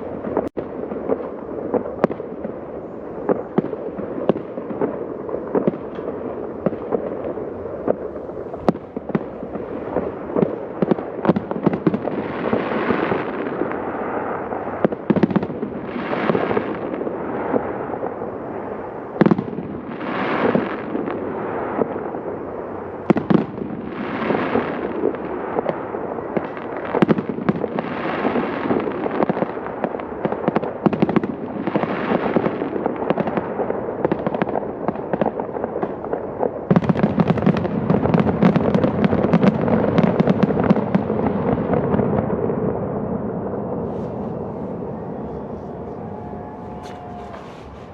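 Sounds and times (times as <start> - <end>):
fireworks bangs: 0.0 - 47.9
fireworks crackling: 0.0 - 47.9
fireworks rumbling: 0.0 - 47.9.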